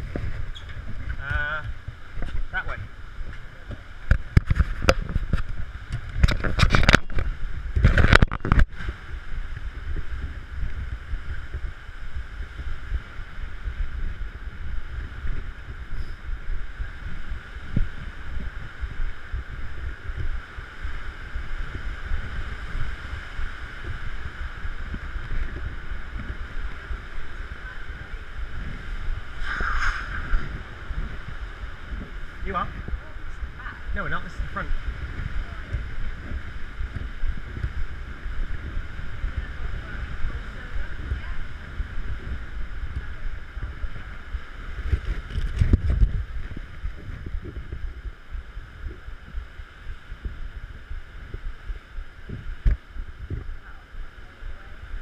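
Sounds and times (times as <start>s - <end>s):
rushing wind and sea: 0.0s - 55.0s
wind buffeting microphone: 0.0s - 55.0s.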